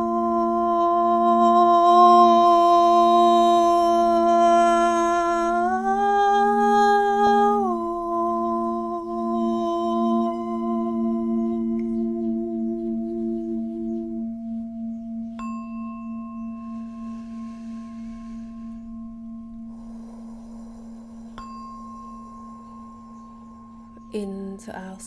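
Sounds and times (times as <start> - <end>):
singing bowl ringing: 0.0 - 24.8.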